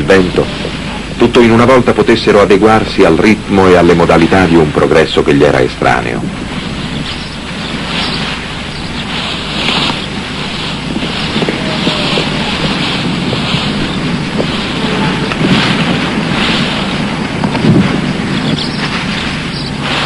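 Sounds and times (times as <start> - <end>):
low rumble: 0.0 - 20.0
wind blowing in gusts: 0.0 - 20.0.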